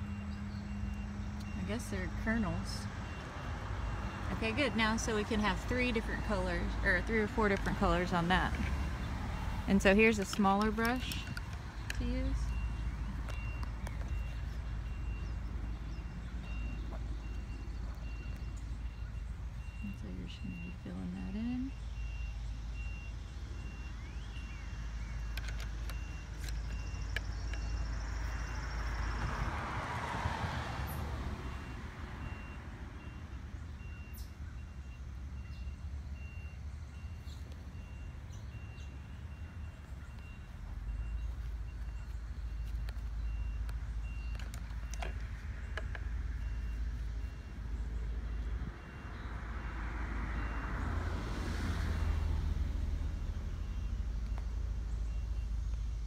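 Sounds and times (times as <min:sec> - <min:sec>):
car passing: 0:00.0 - 0:22.1, 0:25.8 - 0:33.2, 0:39.6 - 0:56.0
faint high-pitched beeping: 0:00.0 - 0:29.1, 0:31.5 - 0:50.8
low traffic rumble: 0:00.0 - 0:56.0.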